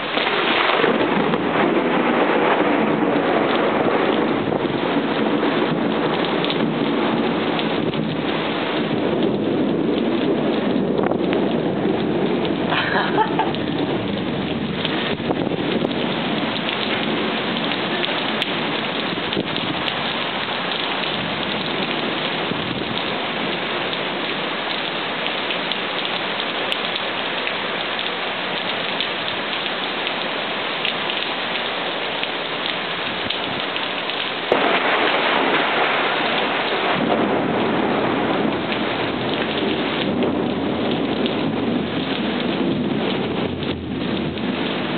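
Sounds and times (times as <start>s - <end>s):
thunderclap: 0.0s - 24.4s, 33.1s - 44.9s
heavy rain: 0.0s - 44.9s.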